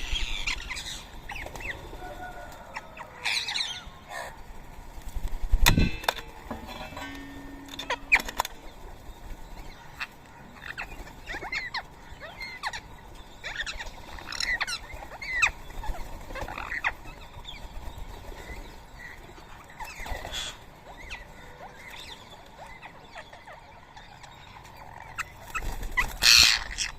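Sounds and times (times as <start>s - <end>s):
birds chirping and squawking: 0.0s - 26.9s.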